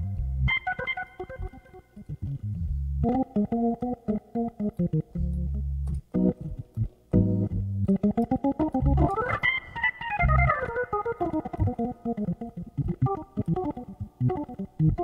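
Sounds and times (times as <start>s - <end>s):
low bass notes: 0.0s - 0.6s, 1.3s - 9.4s, 10.2s - 15.0s
organ playing runs: 0.0s - 15.0s.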